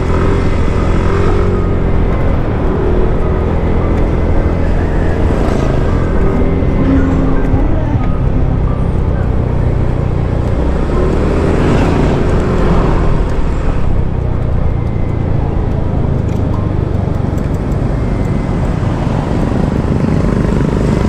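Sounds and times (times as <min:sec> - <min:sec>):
road vehicle rumble: 0:00.0 - 0:21.0.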